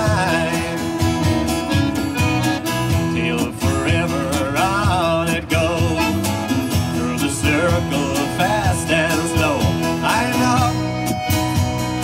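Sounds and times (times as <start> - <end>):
accordion: 0.0 - 12.0
acoustic guitar strumming: 0.0 - 12.0
electric bass: 0.0 - 12.0.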